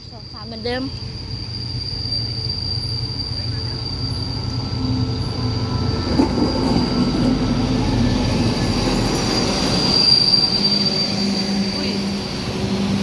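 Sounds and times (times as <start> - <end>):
low rumble of train rolling: 0.0 - 13.0
train brakes squealing: 0.0 - 13.0.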